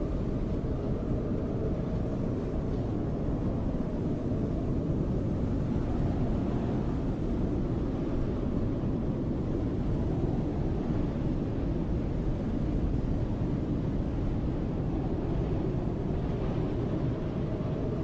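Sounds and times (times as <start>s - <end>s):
snowstorm wind rushing: 0.0s - 18.0s.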